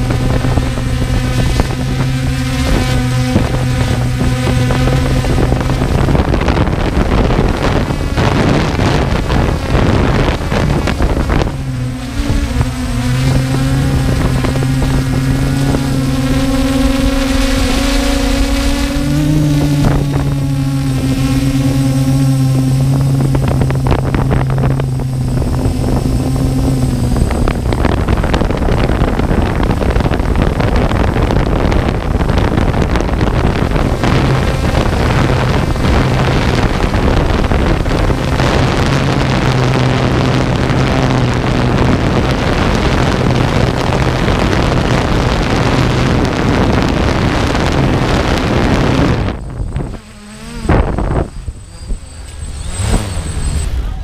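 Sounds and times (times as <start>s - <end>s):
drone propellers buzzing: 0.0s - 54.0s
wind on microphone: 0.0s - 54.0s.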